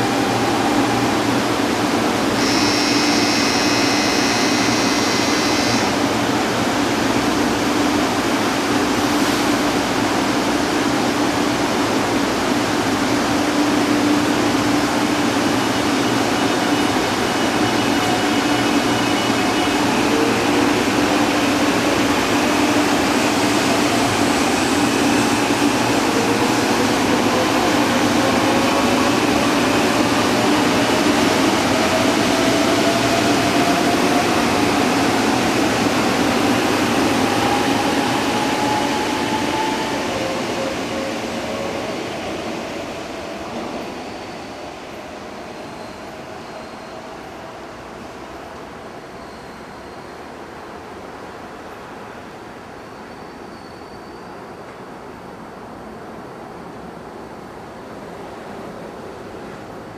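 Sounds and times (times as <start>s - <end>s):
train running rush: 0.0s - 53.5s.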